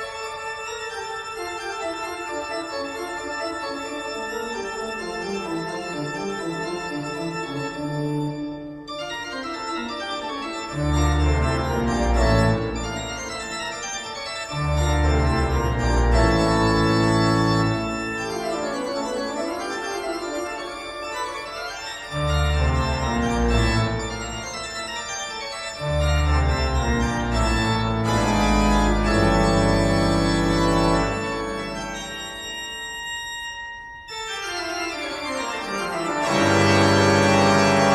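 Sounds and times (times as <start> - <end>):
sustained organ chords: 0.0 - 37.9.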